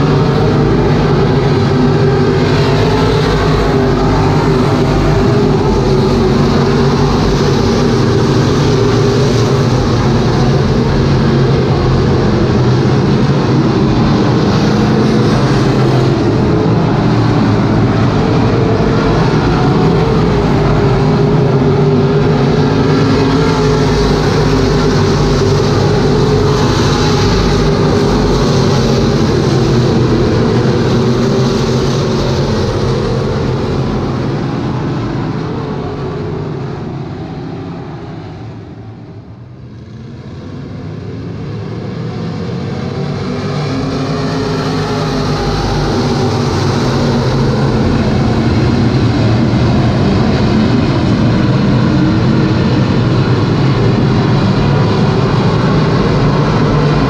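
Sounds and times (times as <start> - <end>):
race car engines running: 0.0 - 57.0.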